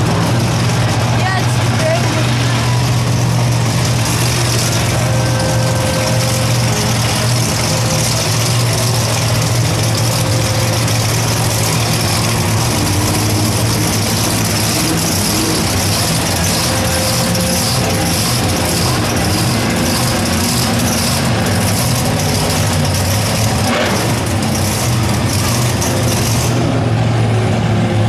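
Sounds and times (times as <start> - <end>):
monster truck engine idling: 0.0 - 28.0.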